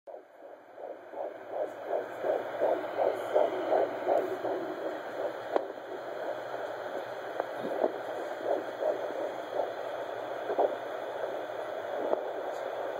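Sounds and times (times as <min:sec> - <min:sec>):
fetal heartbeat whooshing pulse: 0:00.1 - 0:12.9.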